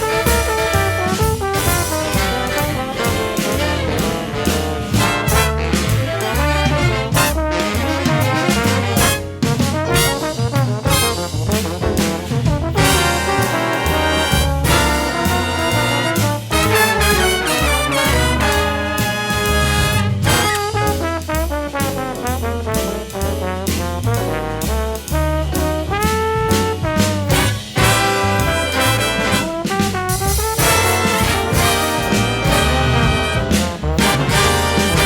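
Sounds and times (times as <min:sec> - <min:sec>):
big band jazz: 0:00.0 - 0:35.0.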